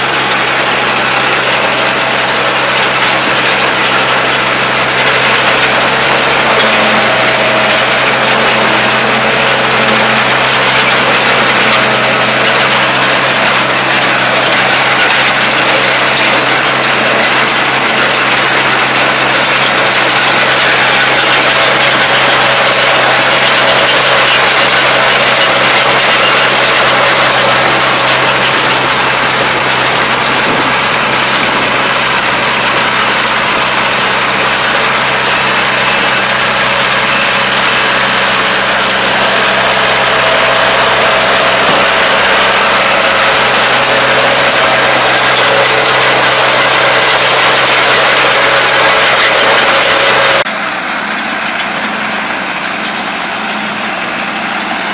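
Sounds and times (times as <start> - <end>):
baler mechanical noise: 0.0 - 54.9
tractor diesel engine under load: 0.0 - 54.9.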